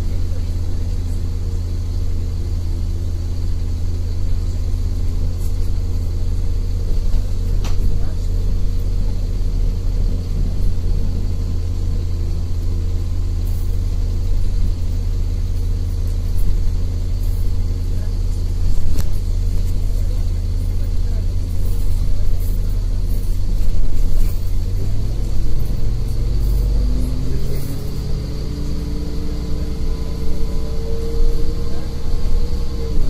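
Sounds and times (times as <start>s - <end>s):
bus engine droning: 0.0s - 33.0s.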